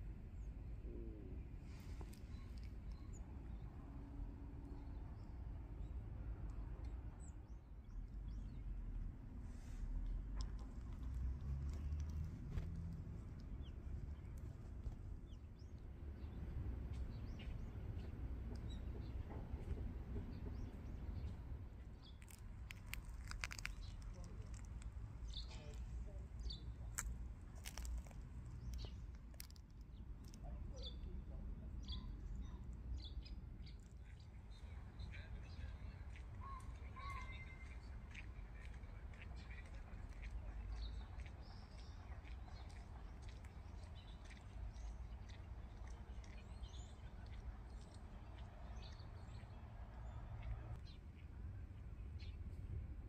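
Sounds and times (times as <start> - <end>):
small birds chirping: 0.3 - 52.7.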